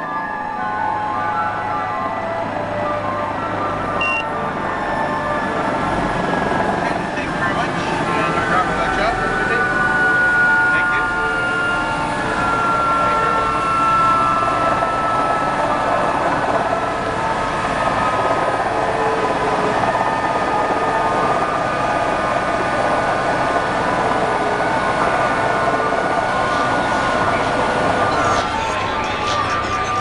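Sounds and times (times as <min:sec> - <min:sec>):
helicopter engine and rotor running: 0:02.0 - 0:30.0.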